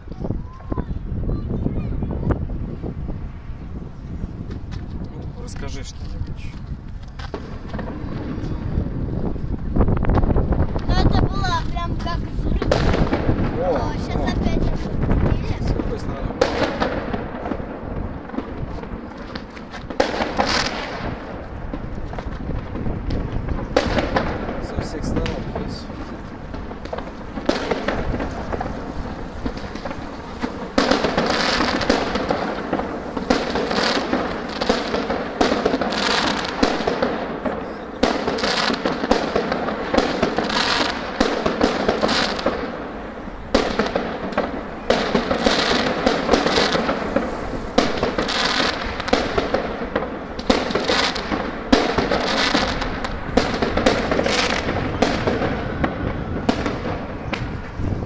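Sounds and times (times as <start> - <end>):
fireworks crackling bursts: 0.0 - 58.0.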